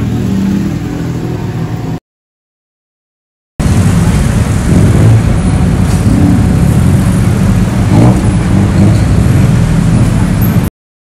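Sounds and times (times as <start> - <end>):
street traffic rumble: 0.0 - 2.0, 3.6 - 10.7
vehicle engines running: 0.0 - 2.0, 3.6 - 10.7.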